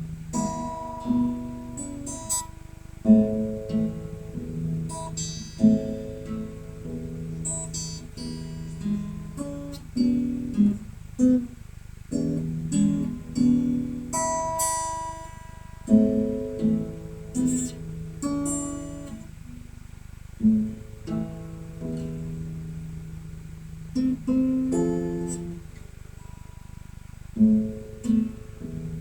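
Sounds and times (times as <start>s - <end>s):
acoustic guitar played slowly: 0.0s - 29.0s.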